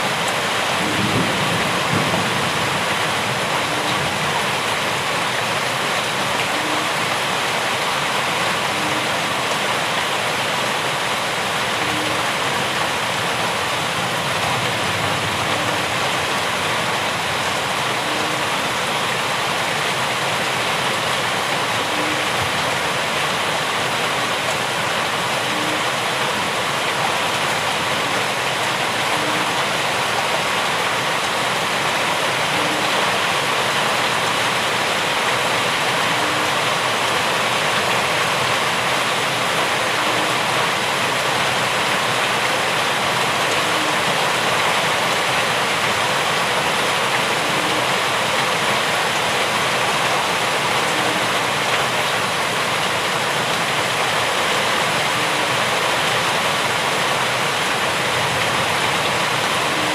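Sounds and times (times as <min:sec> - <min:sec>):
steady dense rain: 0:00.0 - 0:59.9.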